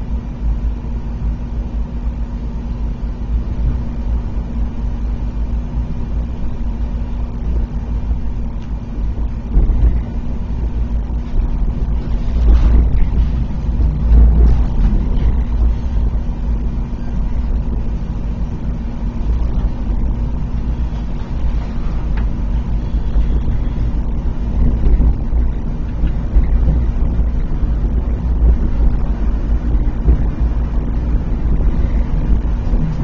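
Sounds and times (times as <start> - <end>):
faint steady hum: 0.0 - 33.0
train rumble inside coach: 0.0 - 33.0.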